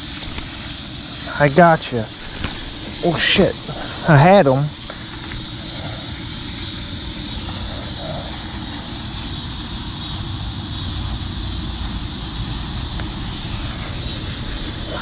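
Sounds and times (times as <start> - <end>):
even hiss: 0.0 - 15.0.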